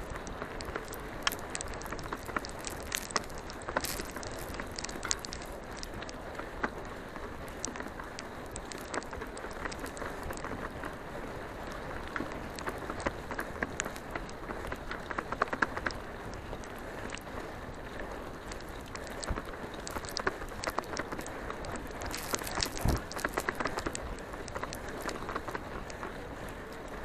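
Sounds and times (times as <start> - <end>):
bike tyres rolling on dirt: 0.0 - 27.0.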